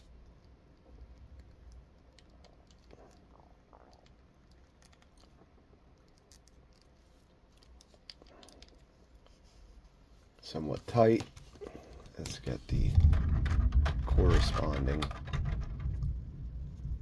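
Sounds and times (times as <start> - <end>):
plastic parts clicking and rubbing: 0.0 - 9.6, 10.4 - 16.9.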